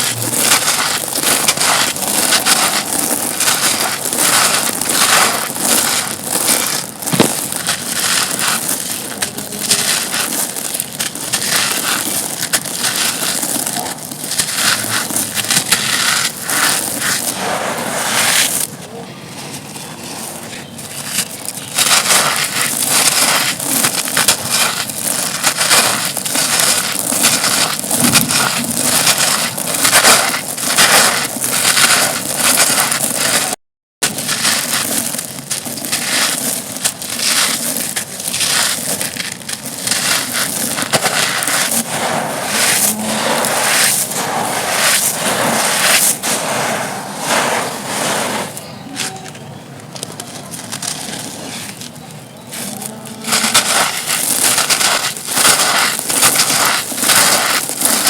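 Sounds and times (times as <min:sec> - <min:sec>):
dry chunks crunching: 0:00.0 - 0:58.0.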